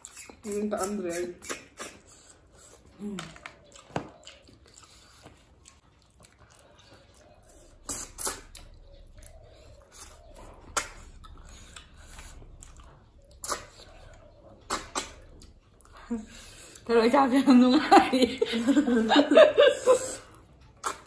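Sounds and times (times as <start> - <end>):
mouth sucking and lip smacking: 0.0 - 15.9, 20.0 - 21.0
soft chewing: 0.0 - 16.9, 19.3 - 21.0.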